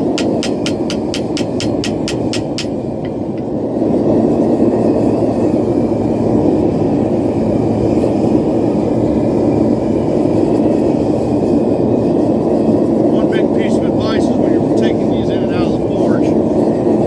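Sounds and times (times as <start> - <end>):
gas forge burner roaring: 0.0 - 17.0.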